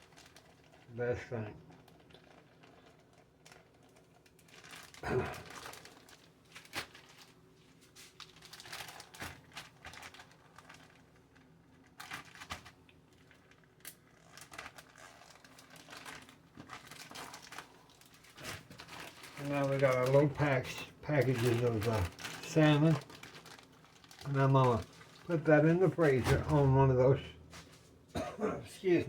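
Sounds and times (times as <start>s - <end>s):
plastic bags crinkling: 0.0s - 28.2s.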